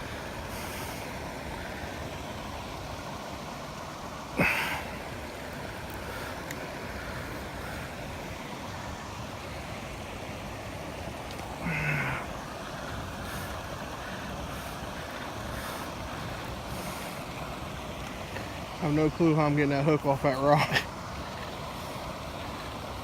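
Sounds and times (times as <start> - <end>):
rushing outdoor noise: 0.0 - 23.0.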